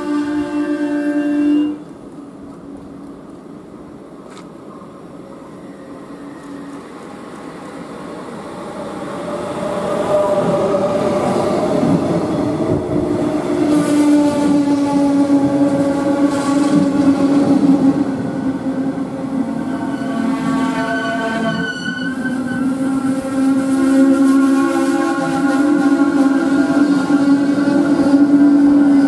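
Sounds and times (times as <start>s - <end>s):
electric train whine: 0.0s - 29.0s
train wheels rumbling on rails: 0.0s - 29.0s.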